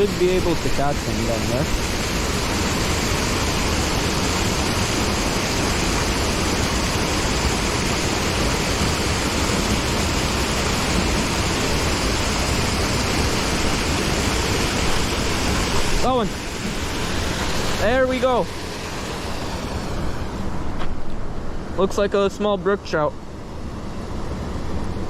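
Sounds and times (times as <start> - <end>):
water rushing over dam: 0.0 - 20.8.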